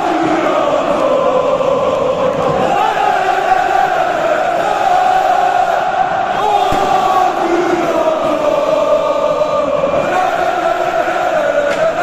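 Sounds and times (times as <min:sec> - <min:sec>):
stadium crowd chanting: 0:00.0 - 0:12.0.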